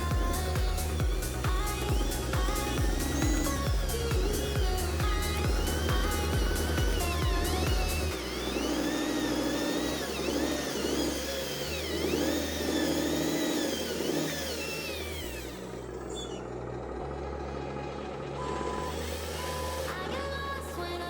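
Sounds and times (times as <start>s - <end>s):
model truck motor whining: 0.0s - 21.0s.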